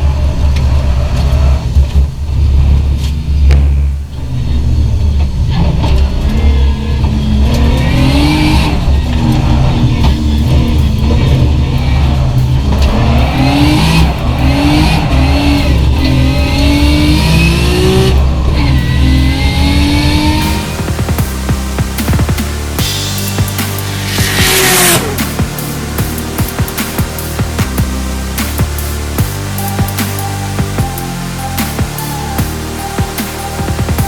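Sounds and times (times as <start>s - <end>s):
race car engine accelerating: 0.0s - 34.0s
music with heavy bass: 6.3s - 34.0s.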